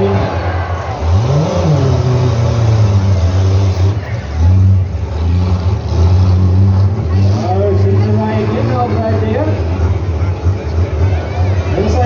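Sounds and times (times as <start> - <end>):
engines revving: 0.0 - 12.0.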